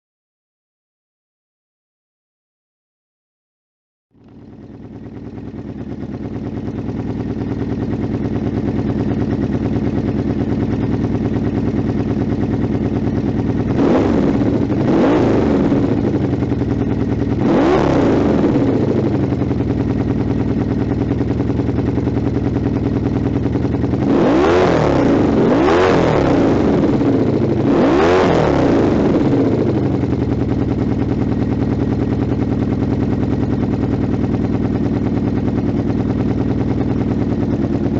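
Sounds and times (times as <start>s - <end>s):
motorcycle engine idling and revving: 4.1s - 37.9s.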